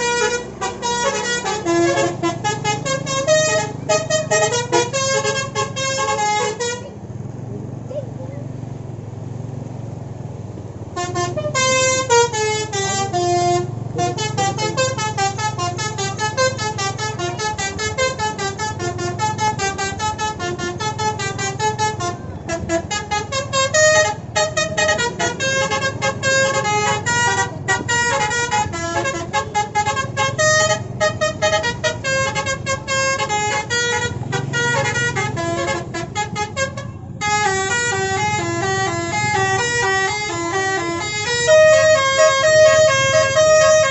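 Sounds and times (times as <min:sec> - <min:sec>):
multi-tone air horn melodies: 0:00.0 - 0:07.0, 0:11.0 - 0:43.9
low engine hum: 0:00.0 - 0:43.9.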